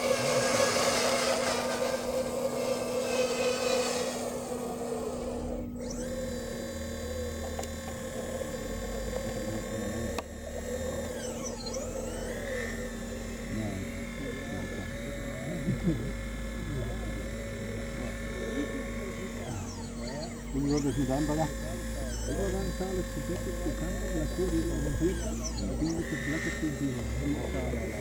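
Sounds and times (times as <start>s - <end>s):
model dump truck drive whirring: 0.0s - 28.0s
model excavator motor whining hum: 0.0s - 28.0s.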